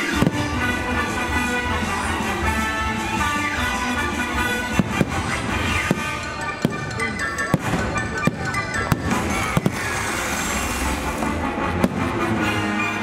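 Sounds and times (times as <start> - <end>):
fireworks bursting bangs: 0.0 - 13.0
loud show music: 0.0 - 13.0.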